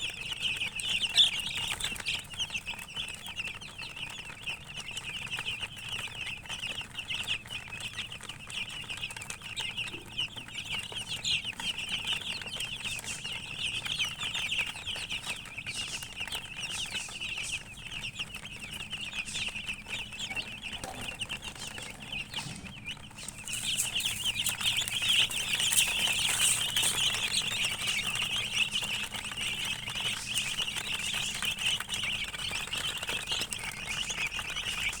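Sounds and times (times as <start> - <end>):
baby chicks cheeping: 0.0 - 35.0.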